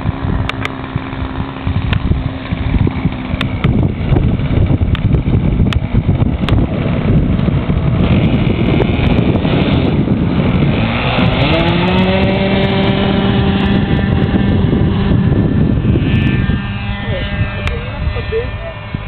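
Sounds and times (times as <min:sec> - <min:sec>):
model airplane engine running: 0:00.0 - 0:19.0
wind rumble on microphone: 0:00.0 - 0:19.0.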